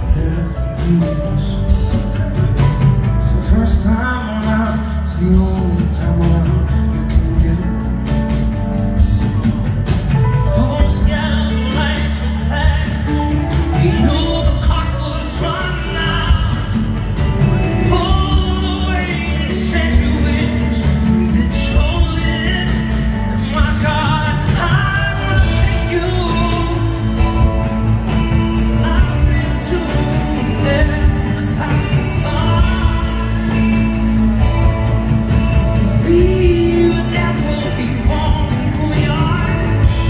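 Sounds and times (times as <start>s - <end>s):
live rock band: 0.0s - 40.0s
man singing lead: 0.0s - 40.0s.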